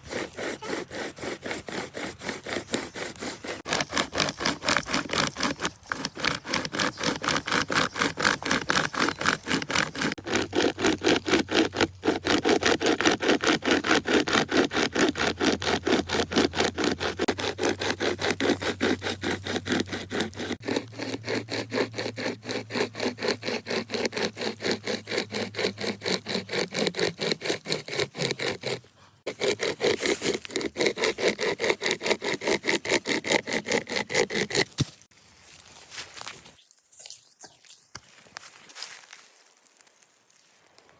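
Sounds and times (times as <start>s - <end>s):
saw cutting through wood: 0.0s - 35.1s.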